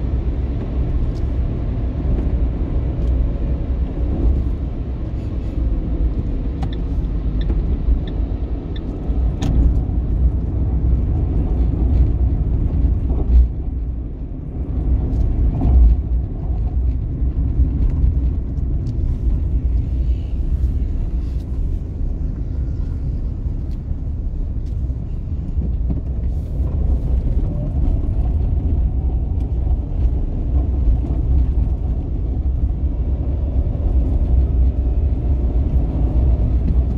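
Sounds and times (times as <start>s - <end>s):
car tyres and engine rumble: 0.0s - 36.9s.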